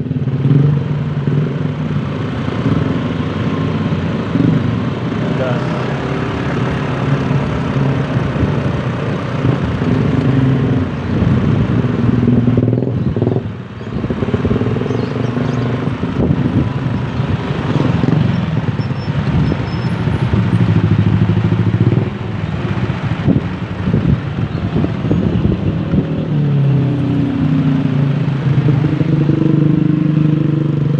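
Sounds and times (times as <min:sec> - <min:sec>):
road noise: 0:00.0 - 0:30.9
vehicle engines speeding up: 0:00.0 - 0:30.9.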